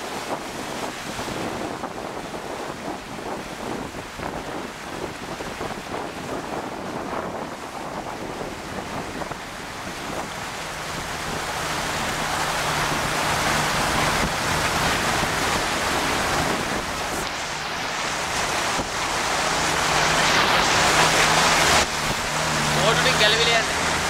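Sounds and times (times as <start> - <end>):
low engine hum: 0.0 - 24.0
water rushing and splashing: 0.0 - 24.0.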